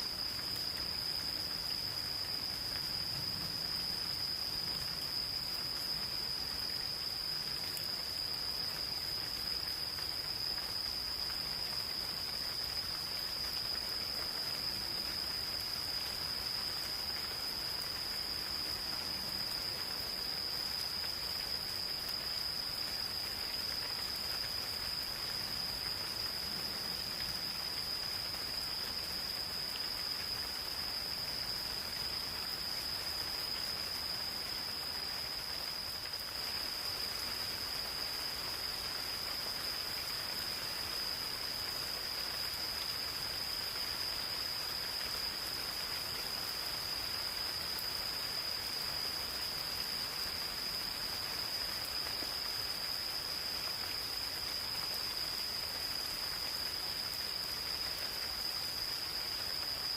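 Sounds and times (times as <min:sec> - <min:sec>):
gentle rain on forest: 0:00.0 - 0:59.9
insects trilling: 0:00.0 - 0:59.9.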